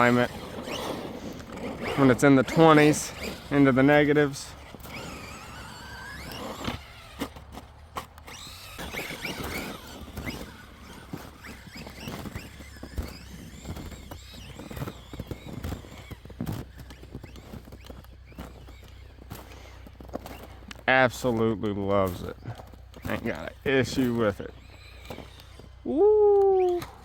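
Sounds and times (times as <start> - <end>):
electric toy truck motor whining: 0.0 - 20.8, 22.1 - 27.0.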